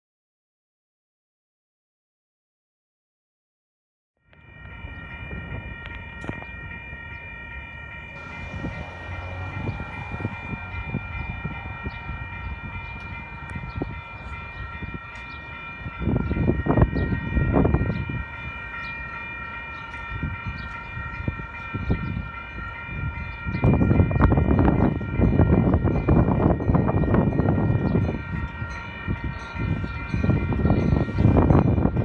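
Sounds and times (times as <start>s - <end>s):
railroad crossing bells ringing: 4.2s - 32.0s
wind rumbling on microphone: 4.6s - 7.3s, 8.0s - 32.0s.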